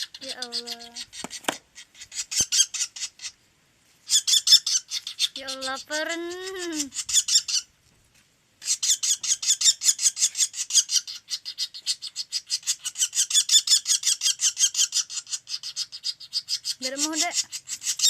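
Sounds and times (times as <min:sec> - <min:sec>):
woodpecker chattering call: 0:00.0 - 0:03.4, 0:04.0 - 0:07.7, 0:08.6 - 0:18.0.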